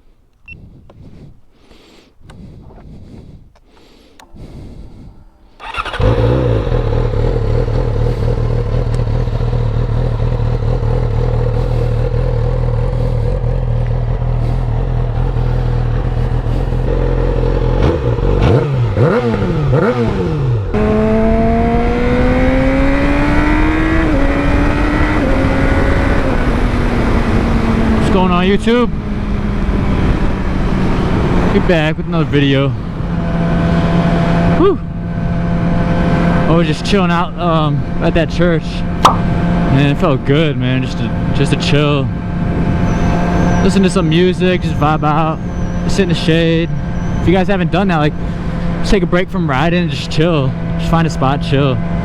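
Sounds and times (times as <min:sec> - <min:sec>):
motorcycle engine idling and revving: 0:04.2 - 0:52.0
motorcycle engine starting: 0:04.2 - 0:52.0
motorcycle accelerating and upshifting: 0:04.6 - 0:52.0.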